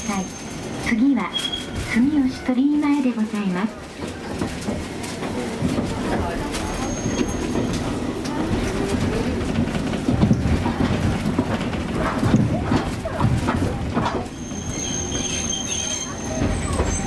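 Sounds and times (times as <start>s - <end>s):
streetcar rumbling on rails: 0.0s - 17.0s.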